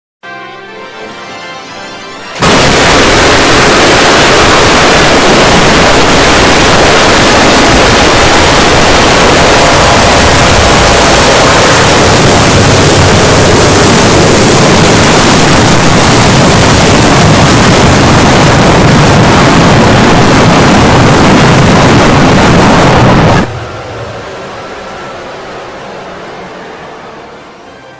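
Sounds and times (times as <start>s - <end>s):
loud distorted noise: 2.1s - 27.9s.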